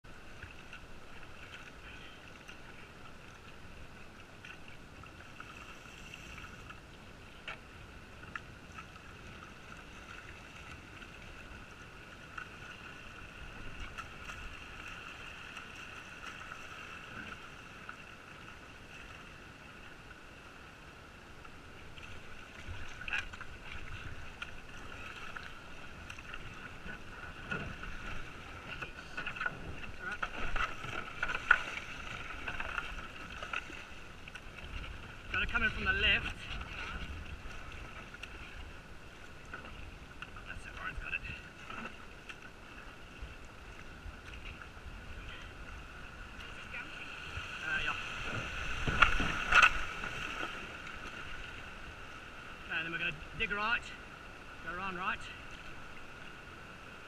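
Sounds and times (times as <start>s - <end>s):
water splashing against hull: 0.0s - 57.0s
paddle strokes: 0.1s - 57.0s.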